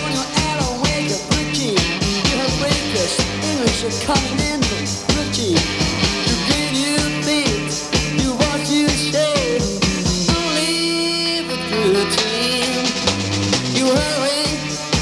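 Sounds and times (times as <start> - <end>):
rock song from vinyl: 0.0 - 15.0.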